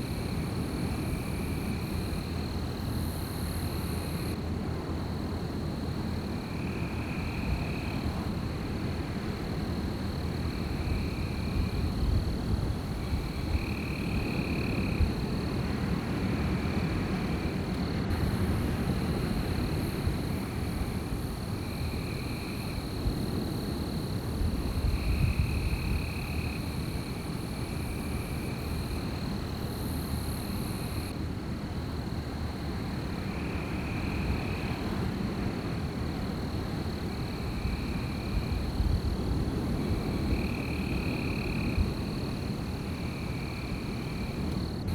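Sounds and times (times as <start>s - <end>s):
low wind rumble: 0.0s - 44.9s.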